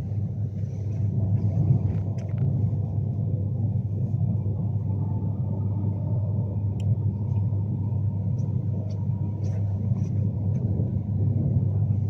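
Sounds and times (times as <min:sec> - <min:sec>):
faint steady whine: 0:00.0 - 0:12.0
train rumble inside carriage: 0:00.0 - 0:12.0.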